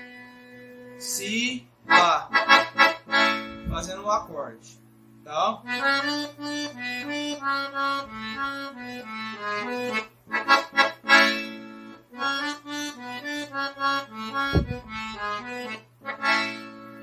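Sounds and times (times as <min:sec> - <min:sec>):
piano accordion melody: 0:00.0 - 0:04.3, 0:05.6 - 0:17.0.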